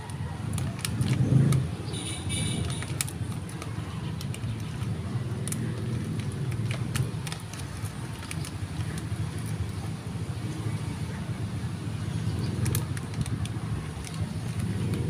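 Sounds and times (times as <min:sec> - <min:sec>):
low outdoor rumble: 0:00.0 - 0:15.0
chip bag crackling: 0:00.1 - 0:09.8, 0:12.5 - 0:15.0.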